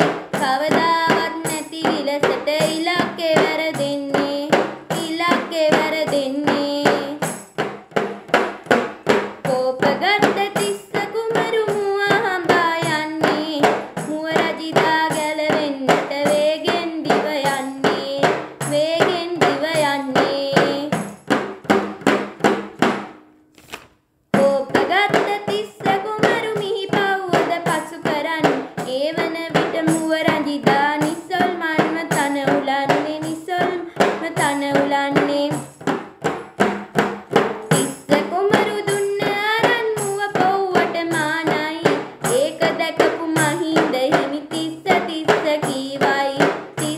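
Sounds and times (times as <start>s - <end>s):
girl singing: 0.0s - 7.3s, 9.2s - 21.2s, 24.3s - 35.8s, 37.7s - 46.9s.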